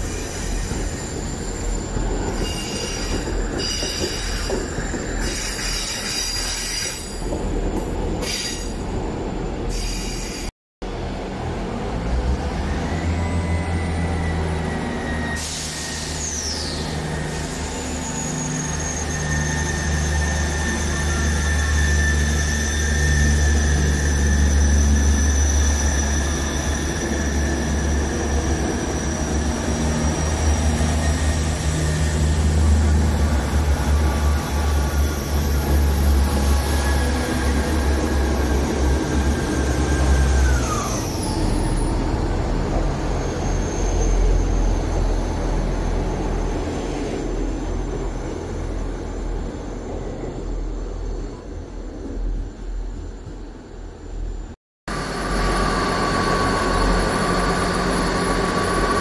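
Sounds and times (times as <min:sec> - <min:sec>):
train engine rumble: 0:00.0 - 0:59.0
high whine of carriages: 0:11.6 - 0:59.0.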